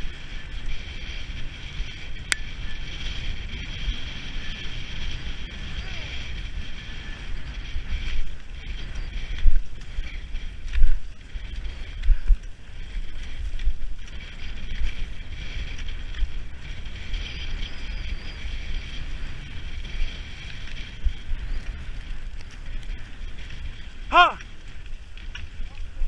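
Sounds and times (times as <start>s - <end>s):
skis gliding on snow: 0.0s - 26.0s
wind buffeting microphone: 0.0s - 26.0s.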